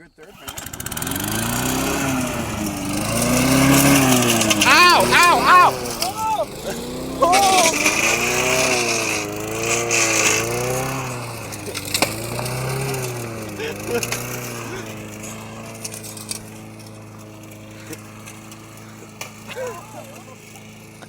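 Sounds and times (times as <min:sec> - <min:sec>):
lawn mower engine surging: 0:00.0 - 0:21.0.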